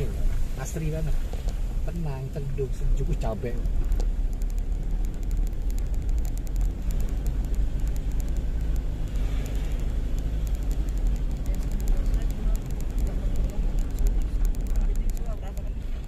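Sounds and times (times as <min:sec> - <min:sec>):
faint light ticks: 0:00.0 - 0:16.0
vehicle engine and road noise: 0:00.0 - 0:16.0.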